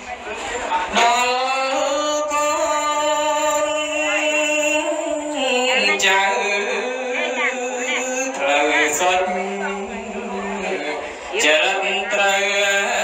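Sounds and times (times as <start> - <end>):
person chanting: 0.9 - 13.0.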